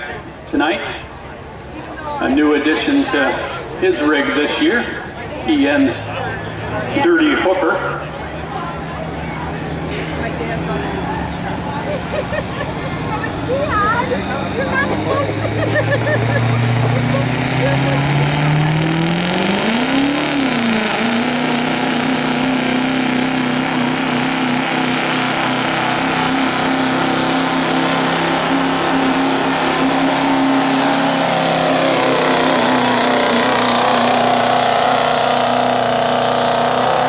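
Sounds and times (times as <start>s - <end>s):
pickup truck engine at full throttle: 0.0s - 37.0s.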